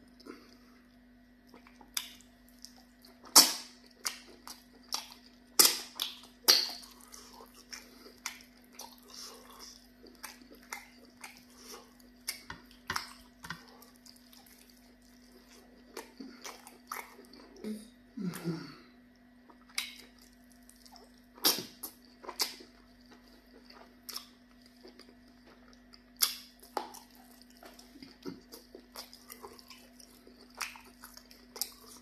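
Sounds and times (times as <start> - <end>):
faint low hum: 0.0 - 32.0
chewing and wet mouth smacks: 0.1 - 17.6, 19.2 - 32.0.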